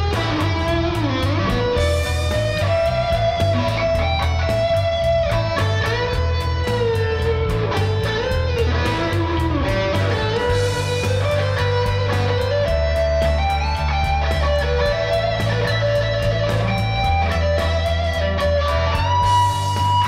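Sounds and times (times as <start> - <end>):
bass line: 0.0 - 20.0
electric guitar lead: 0.0 - 20.0
steady beat: 0.0 - 20.0.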